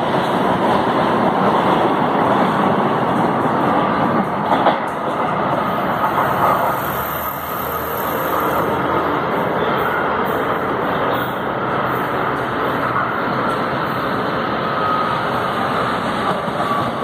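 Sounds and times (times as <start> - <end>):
train approaching: 0.0 - 17.0
train wheel rumble on rails: 0.0 - 17.0.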